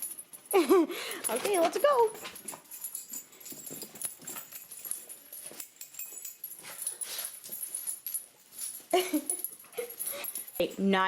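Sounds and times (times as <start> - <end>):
rustles: 1.3 - 10.7.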